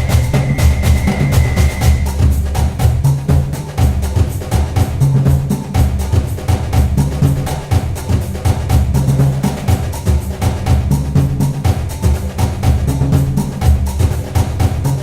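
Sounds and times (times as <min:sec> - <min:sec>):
music with steady drum beat: 0:00.0 - 0:15.0
wood-block-like percussive click: 0:00.0 - 0:15.0.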